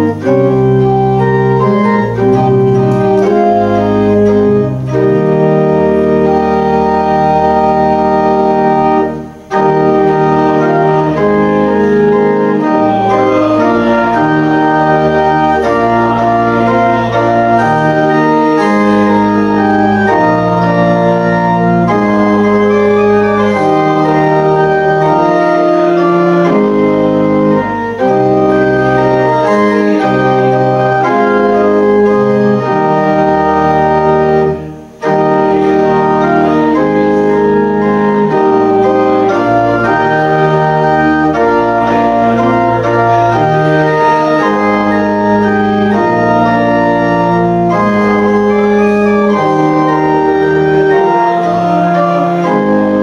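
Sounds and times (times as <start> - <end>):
church organ slow chords: 0.0 - 53.0.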